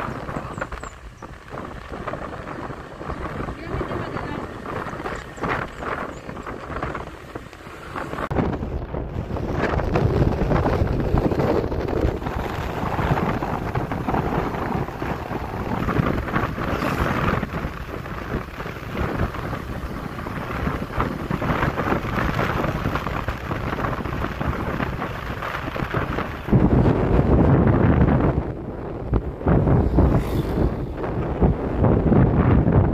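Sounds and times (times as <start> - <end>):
road noise: 0.0 - 32.9
wind buffeting microphone: 0.0 - 32.9.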